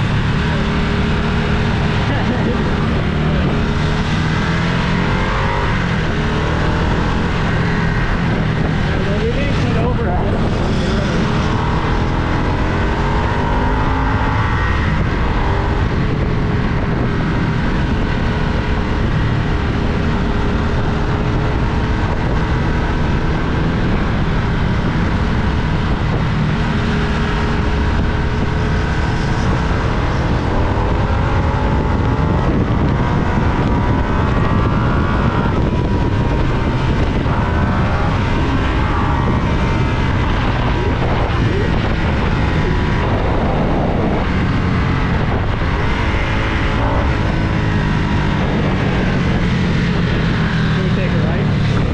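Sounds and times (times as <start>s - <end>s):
motorcycle engine accelerating: 0.0s - 51.9s
road and wind noise: 0.0s - 51.9s.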